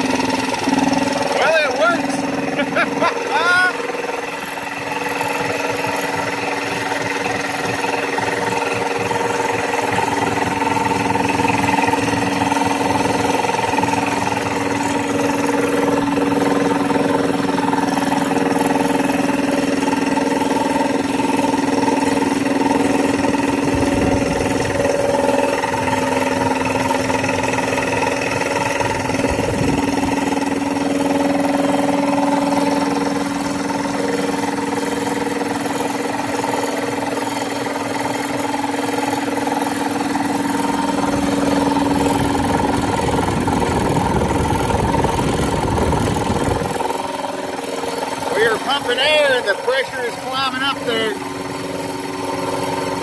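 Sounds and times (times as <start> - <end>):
air compressor running: 0.0 - 53.0.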